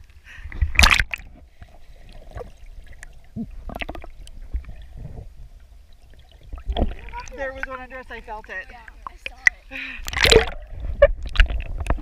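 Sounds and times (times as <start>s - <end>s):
underwater gurgles and clicks: 0.0s - 12.0s
underwater low rumble: 0.0s - 12.0s
water splash: 0.7s - 5.0s, 6.1s - 12.0s.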